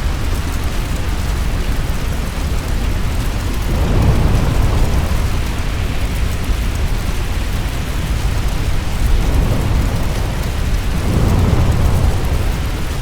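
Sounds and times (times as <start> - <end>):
firestorm deep rumble with hiss: 0.0 - 13.0.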